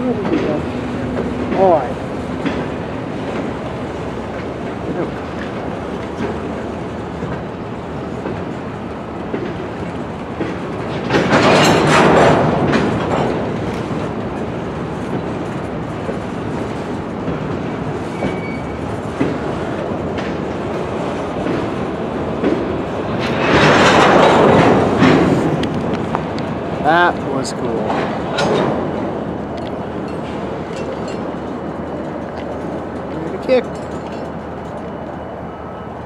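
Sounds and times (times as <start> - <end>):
train wheels clicking over rail joints: 0.0 - 35.2.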